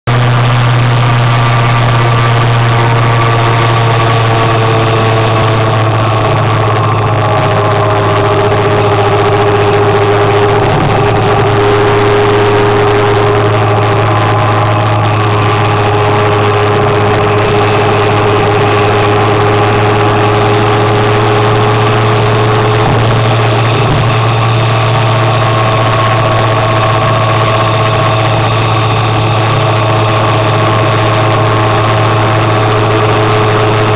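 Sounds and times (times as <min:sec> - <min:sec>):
scooter engine droning: 0:00.0 - 0:33.9.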